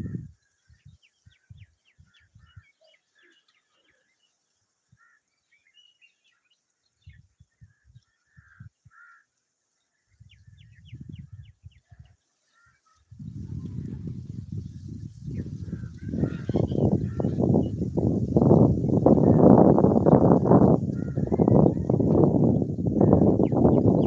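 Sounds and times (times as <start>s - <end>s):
small birds chirping: 0.1s - 24.0s.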